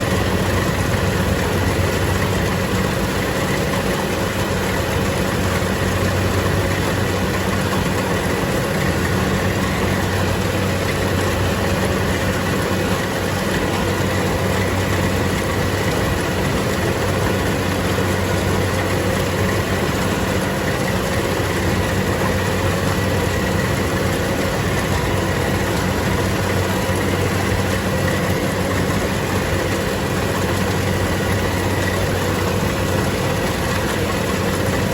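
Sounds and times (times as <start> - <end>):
harvesting machine engine droning: 0.0 - 34.9.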